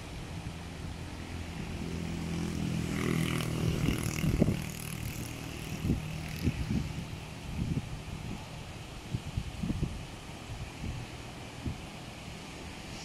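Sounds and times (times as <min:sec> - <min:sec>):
small waves on beach: 0:00.0 - 0:13.0
wind buffeting microphone: 0:00.0 - 0:13.0.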